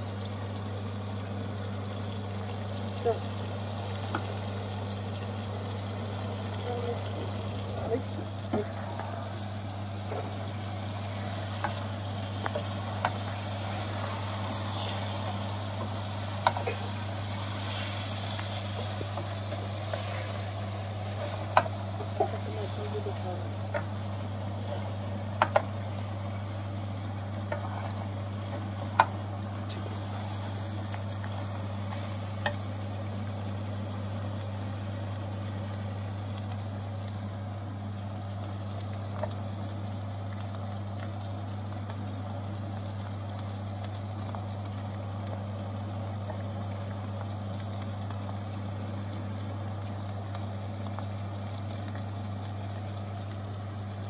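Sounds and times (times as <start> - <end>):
curry sizzling in a pot: 0.0 - 54.0.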